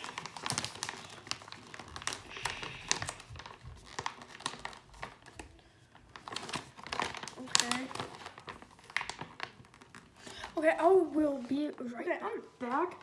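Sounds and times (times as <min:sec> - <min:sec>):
packaging pouch crinkling: 0:00.0 - 0:10.6.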